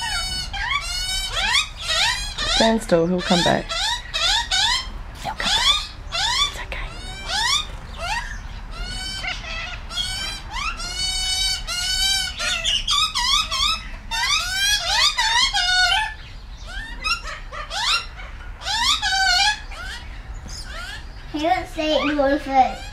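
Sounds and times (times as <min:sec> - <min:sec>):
magpies warbling calls: 0:00.0 - 0:22.9.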